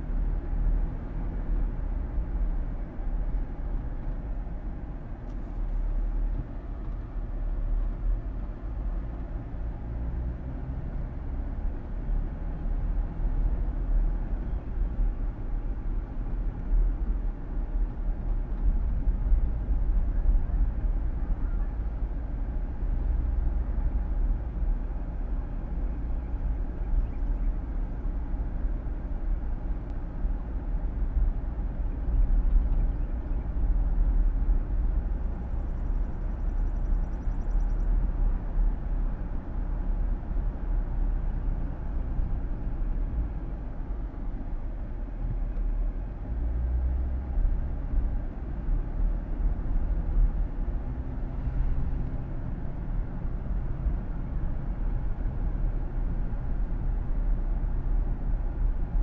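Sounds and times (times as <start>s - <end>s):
car road rumble: 0.0s - 59.0s.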